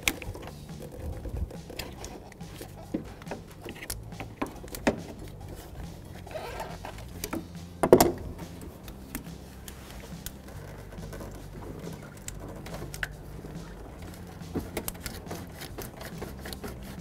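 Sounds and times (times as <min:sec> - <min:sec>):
hand tool clicks and knocks: 0:00.0 - 0:17.0.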